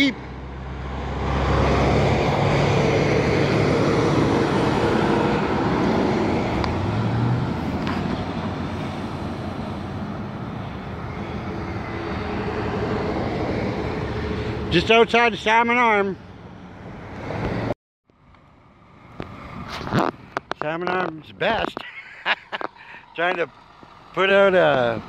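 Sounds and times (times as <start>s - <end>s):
heavy trucks driving past: 0.0s - 20.5s, 21.2s - 25.0s
highway traffic passing: 0.0s - 25.0s.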